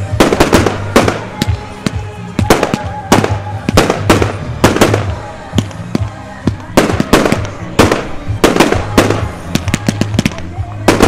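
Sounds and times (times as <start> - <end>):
firework cake bangs: 0.0 - 11.0.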